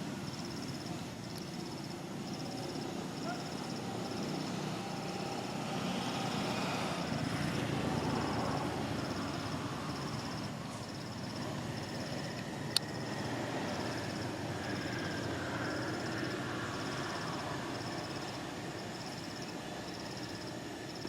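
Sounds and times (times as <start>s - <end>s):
insect chirping buzzy trills: 0.0s - 21.0s
outdoor background noise: 0.0s - 21.0s.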